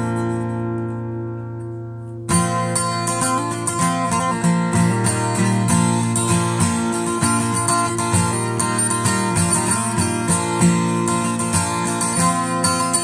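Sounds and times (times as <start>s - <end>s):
guitar strummed and picked: 0.0s - 13.0s.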